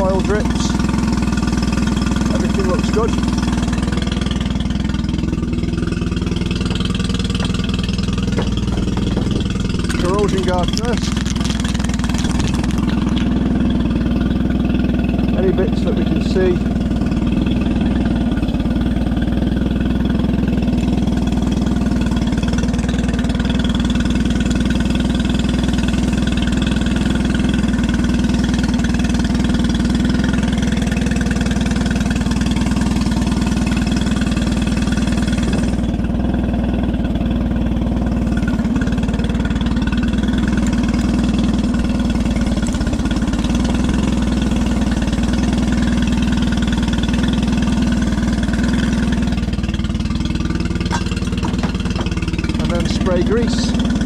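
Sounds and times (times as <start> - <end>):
outboard engine idling: 0.0 - 54.0.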